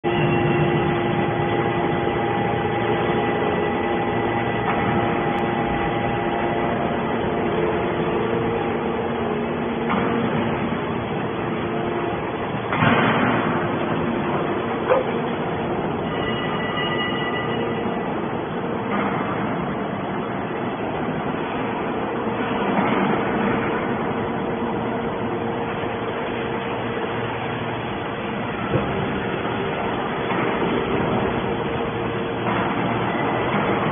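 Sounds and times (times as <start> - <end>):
hydraulic machine hum: 0.0 - 33.9
noisy rush: 0.0 - 33.9.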